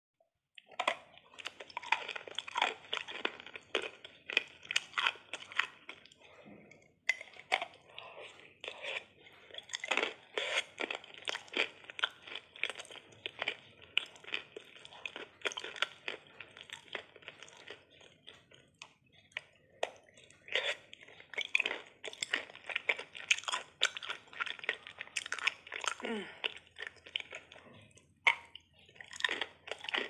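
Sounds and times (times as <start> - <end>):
crunchy chewing: 0.6 - 30.0.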